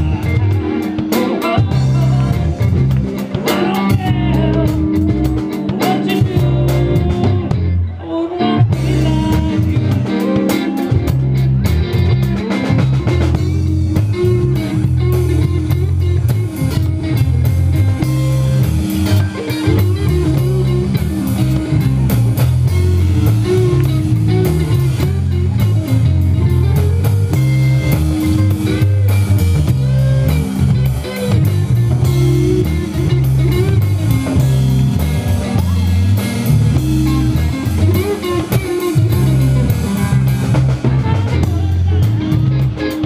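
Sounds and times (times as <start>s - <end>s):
drum kit: 0.0s - 7.9s, 8.6s - 43.0s
bass guitar: 0.0s - 43.0s
electric guitar bent notes: 0.0s - 43.0s.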